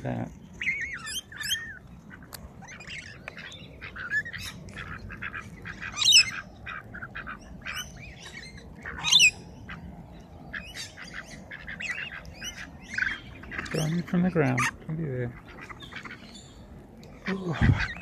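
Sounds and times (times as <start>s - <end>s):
lorikeets screeching and chattering: 0.0s - 18.0s.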